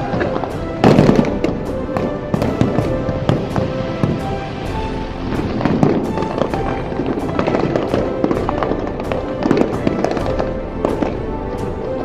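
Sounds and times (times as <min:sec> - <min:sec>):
background music: 0:00.0 - 0:12.0
fireworks bangs and crackles: 0:00.0 - 0:12.0.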